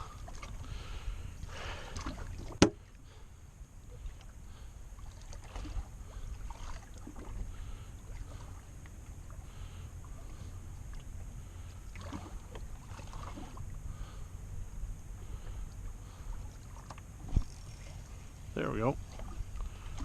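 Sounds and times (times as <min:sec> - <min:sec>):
low boat rumble: 0:00.0 - 0:20.0.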